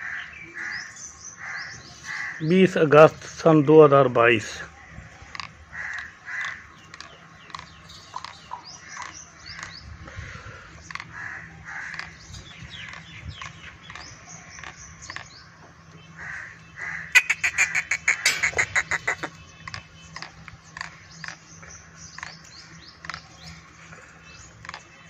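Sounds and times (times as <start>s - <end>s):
birds chattering rapidly: 0.0s - 25.0s
birds chirping: 0.0s - 25.0s.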